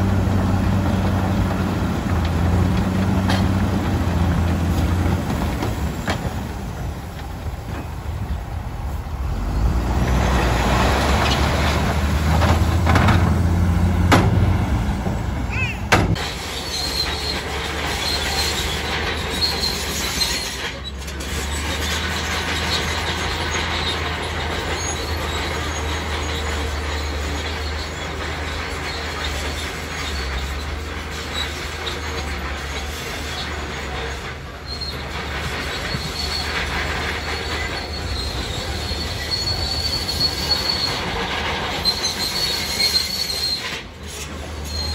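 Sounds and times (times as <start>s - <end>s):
bulldozer engine drone: 0.0s - 44.9s
diesel truck engine: 0.0s - 44.9s
squealing bulldozer tracks: 0.0s - 44.9s.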